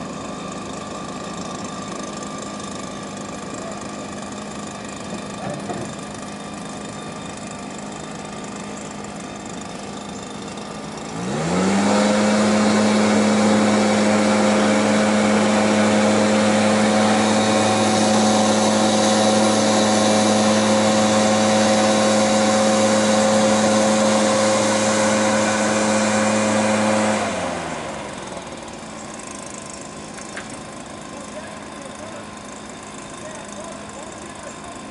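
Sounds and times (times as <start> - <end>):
petrol blower engine revving: 0.0 - 34.9.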